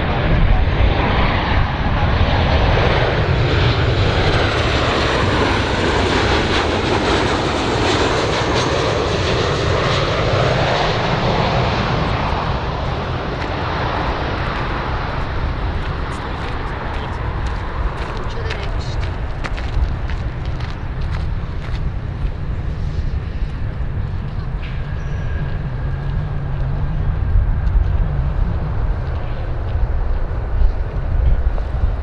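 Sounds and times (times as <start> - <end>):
aircraft engines roaring: 0.0 - 32.0.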